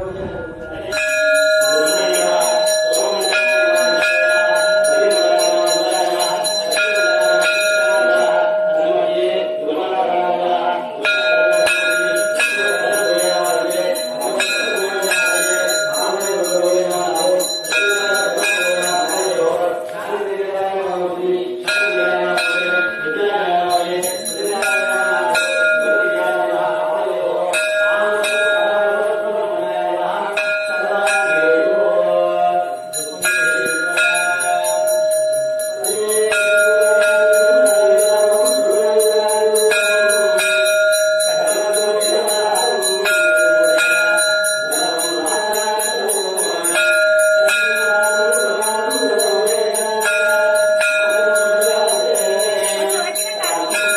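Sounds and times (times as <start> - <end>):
temple bell ringing rapidly: 0.0 - 53.9.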